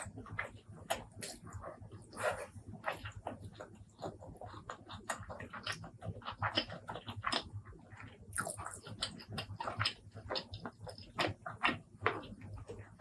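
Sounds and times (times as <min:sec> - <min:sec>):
chewing mouth clicks and smacks: 0:00.0 - 0:13.0.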